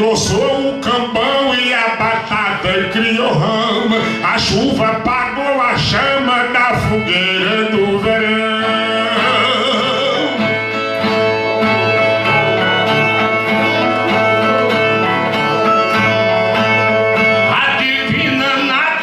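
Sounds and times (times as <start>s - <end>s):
strummed viola: 0.0s - 19.0s.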